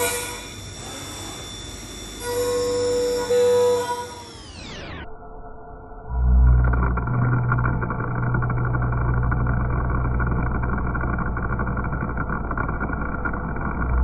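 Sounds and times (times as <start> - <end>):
milling machine cutting metal: 0.0 - 5.0, 6.3 - 14.0.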